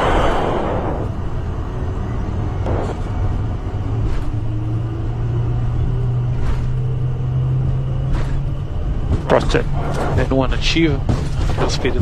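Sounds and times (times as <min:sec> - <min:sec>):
aircraft engines spooling up: 0:00.0 - 0:11.0.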